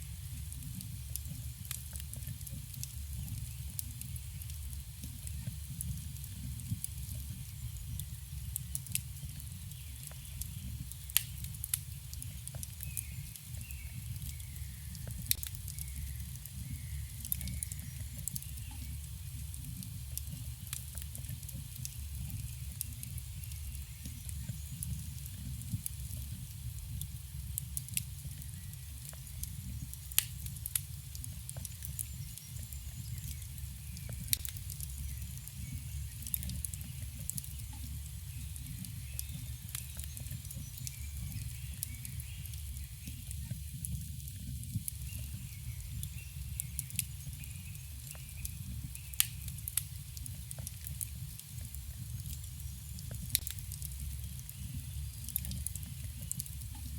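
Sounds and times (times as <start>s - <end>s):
campfire crackling and popping: 0.0s - 56.9s
low rumble of burning wood: 0.0s - 56.9s.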